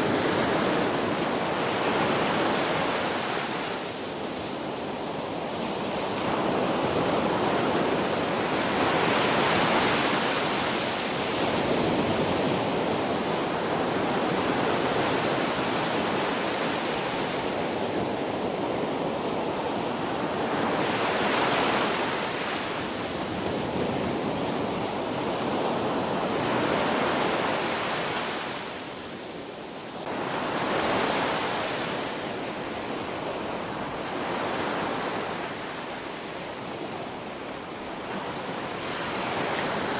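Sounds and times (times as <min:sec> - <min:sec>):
ocean waves crashing on beach: 0:00.0 - 0:39.9.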